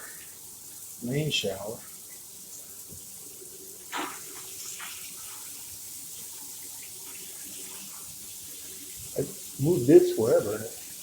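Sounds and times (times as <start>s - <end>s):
shower water running: 0.0s - 11.0s.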